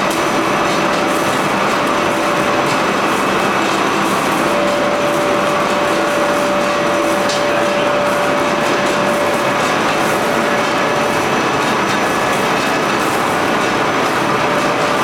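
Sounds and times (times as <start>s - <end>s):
pellet mill running: 0.0s - 15.0s
steady mechanical whine: 0.0s - 15.0s.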